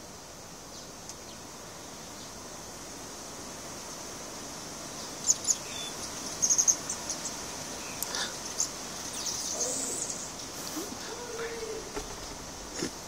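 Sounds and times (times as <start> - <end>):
high-pitched insect chorus: 1.3 - 13.0.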